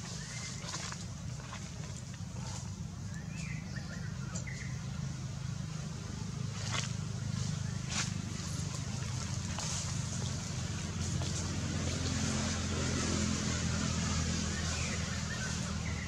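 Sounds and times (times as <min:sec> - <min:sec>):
distant motor drone: 0:00.0 - 0:16.0.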